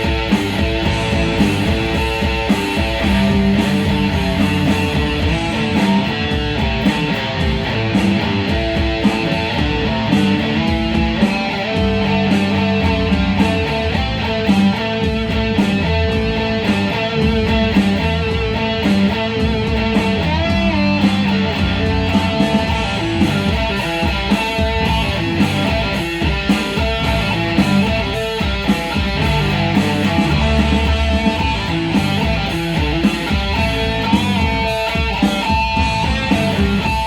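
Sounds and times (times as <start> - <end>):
guitar-led music with beat: 0.0 - 37.0.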